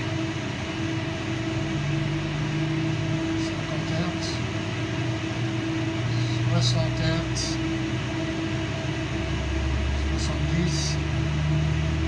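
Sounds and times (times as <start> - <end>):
low buzz: 0.0 - 12.0
vibration shaker humming: 0.0 - 12.0.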